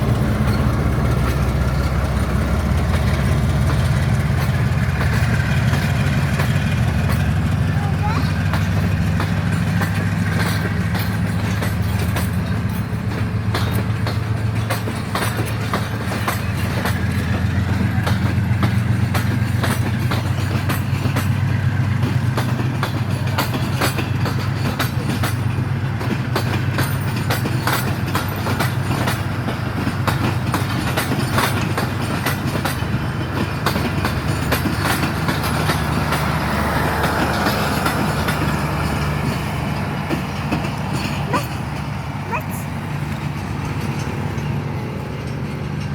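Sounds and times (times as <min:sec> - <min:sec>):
diesel locomotive engine droning: 0:00.0 - 0:45.9
train wheels clattering: 0:00.0 - 0:45.9.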